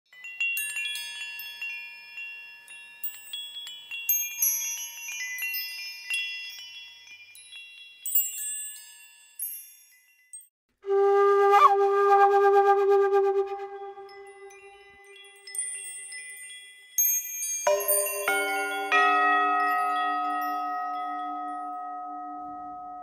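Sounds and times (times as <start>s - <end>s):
wind chimes ringing: 0.1s - 10.6s, 13.6s - 23.0s.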